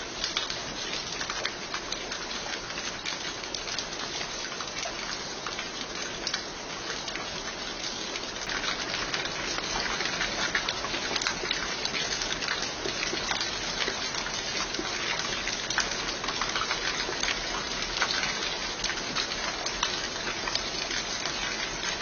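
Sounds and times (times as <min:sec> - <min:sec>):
raindrops ticking on surfaces: 0:00.0 - 0:22.0
steady rain falling: 0:00.0 - 0:22.0.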